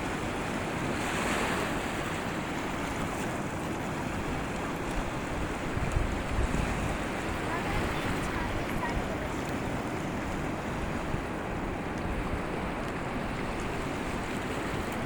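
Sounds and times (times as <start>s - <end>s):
sea waves washing on shore: 0.0s - 15.0s
wind rumbling on microphone: 0.0s - 15.0s.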